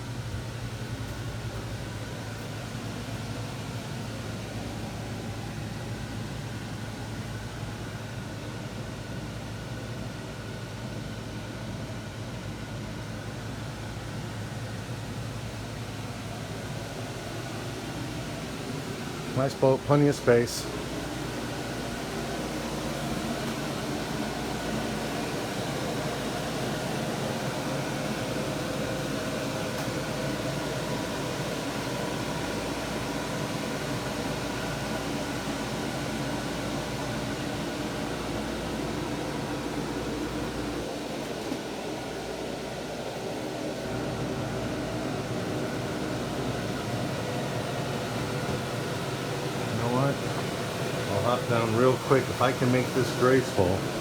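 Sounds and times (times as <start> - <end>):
machinery hum: 0.0 - 54.0.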